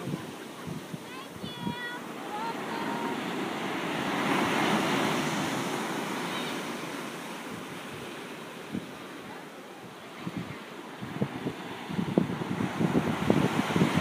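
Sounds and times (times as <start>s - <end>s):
ocean wave breaking: 0.0s - 14.0s.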